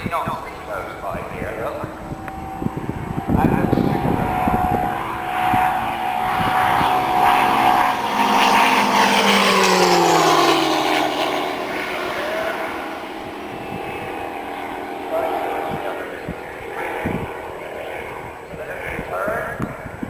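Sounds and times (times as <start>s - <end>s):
model aircraft engine passing: 0.0s - 20.0s.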